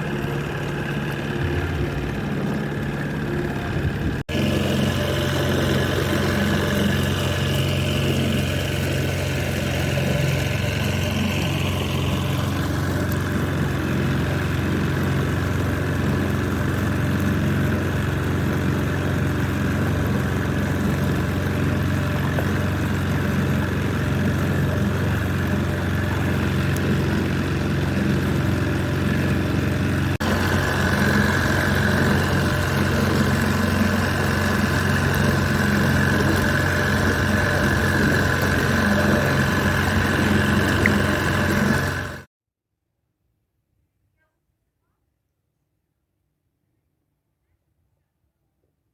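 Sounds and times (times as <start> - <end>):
engine running: 0.0 - 42.3.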